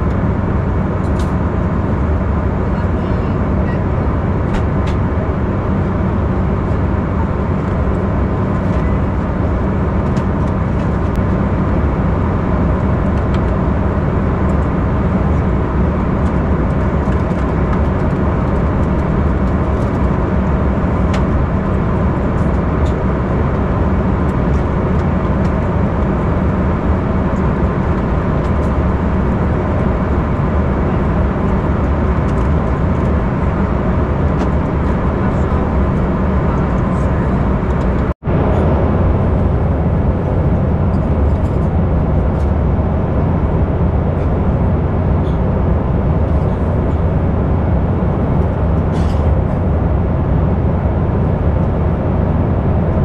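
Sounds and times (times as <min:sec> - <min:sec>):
airflow over fuselage: 0:00.0 - 0:53.0
jet engine cabin roar: 0:00.0 - 0:53.0.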